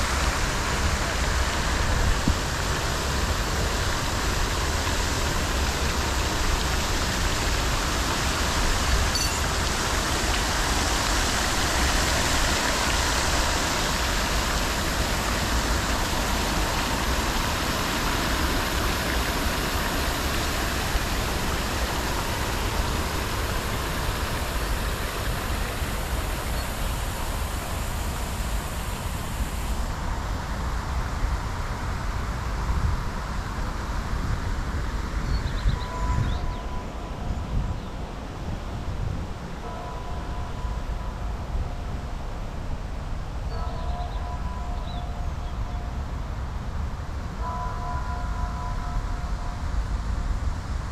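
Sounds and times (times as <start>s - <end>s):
fountain water jets splashing: 0.0s - 50.9s.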